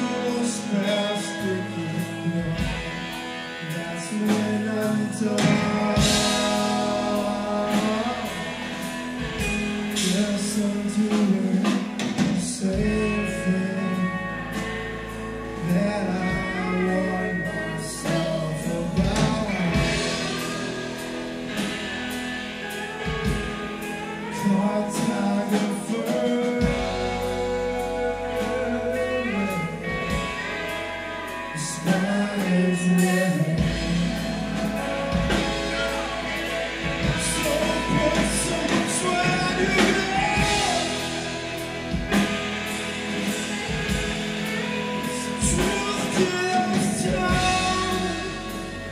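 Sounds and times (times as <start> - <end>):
man singing: 0.0 - 21.7, 22.6 - 48.9
live band playing: 0.0 - 48.9.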